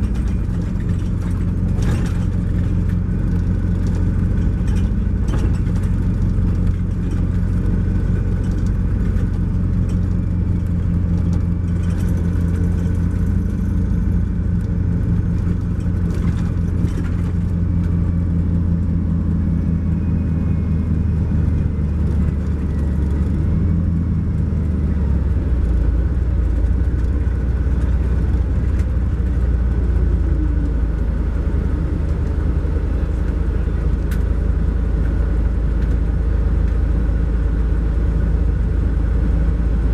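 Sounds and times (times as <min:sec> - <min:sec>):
diesel engine low drone: 0:00.0 - 0:39.9.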